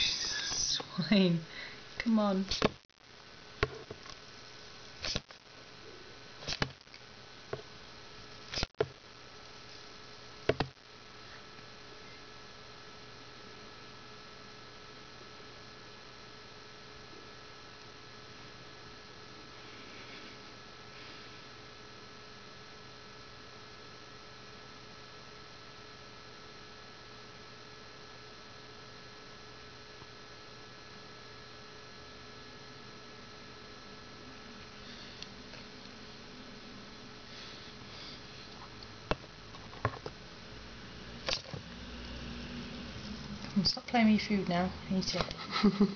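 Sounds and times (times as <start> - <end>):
electrical mains hum: 0.0 - 45.9.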